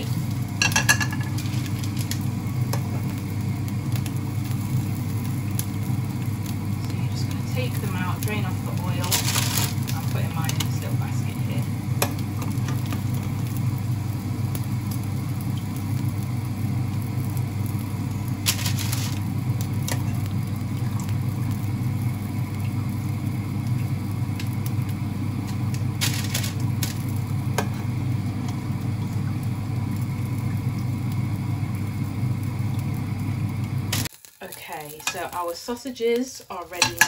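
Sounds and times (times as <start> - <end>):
hot oil sizzling in a pan: 0.0 - 37.0.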